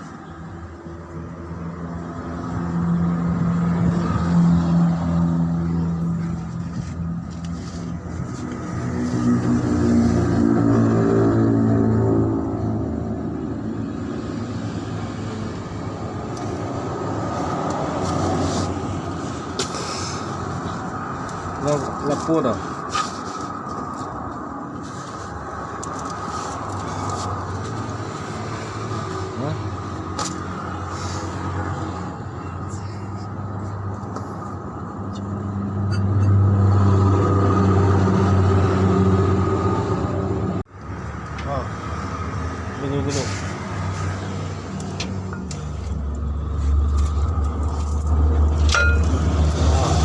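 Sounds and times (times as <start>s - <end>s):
large vehicle engine rumbling: 0.0s - 50.0s.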